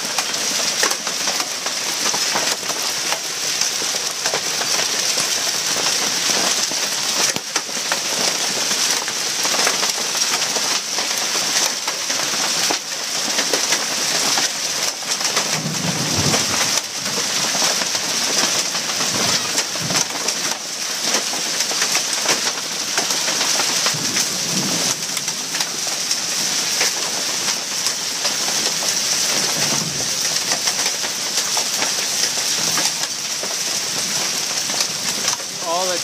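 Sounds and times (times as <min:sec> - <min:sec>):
heavy rain on hard surfaces: 0:00.0 - 0:36.0.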